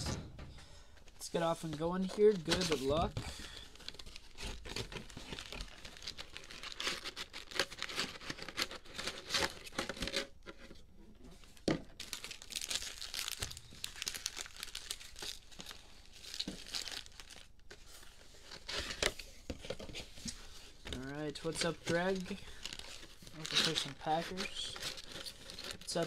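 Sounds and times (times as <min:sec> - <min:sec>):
cellophane crinkling: 0:01.0 - 0:10.7, 0:11.4 - 0:26.0.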